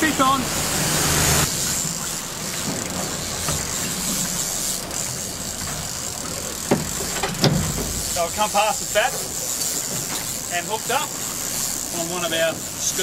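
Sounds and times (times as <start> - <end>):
outboard motor running: 0.0 - 13.0
wind and sea hiss: 0.0 - 13.0.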